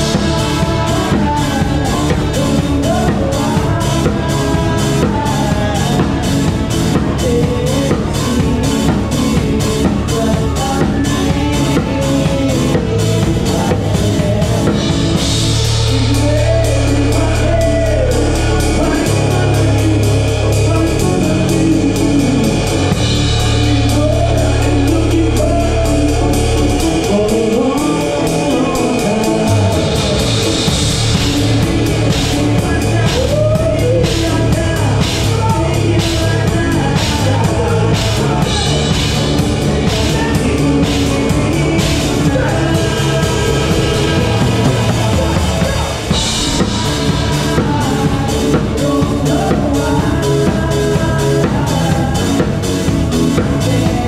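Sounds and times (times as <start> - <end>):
bass: 0.0 - 54.0
drums: 0.0 - 54.0
guitar: 0.0 - 54.0
person singing: 0.0 - 54.0.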